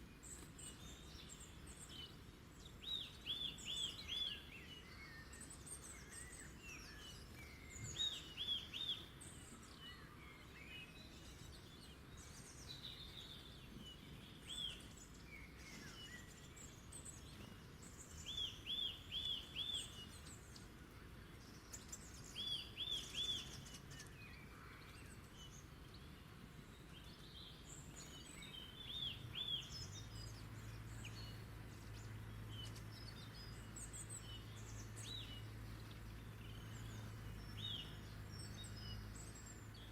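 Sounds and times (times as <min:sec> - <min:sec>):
low steady hum: 0:00.0 - 0:39.9
small birds singing: 0:00.0 - 0:39.9.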